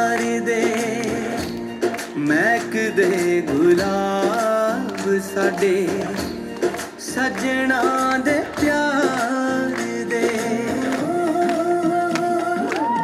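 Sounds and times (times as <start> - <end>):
drum beat: 0.0 - 13.0
folk song over loudspeakers: 0.0 - 13.0
person singing: 0.0 - 13.0.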